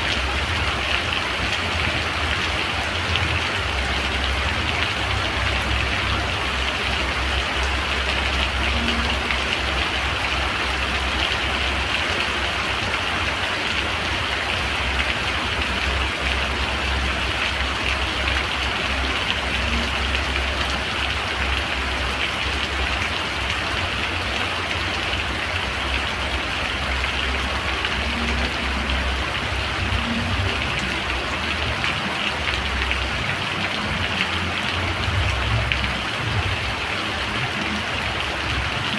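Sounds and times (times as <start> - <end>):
rain hissing on surfaces: 0.0 - 38.9.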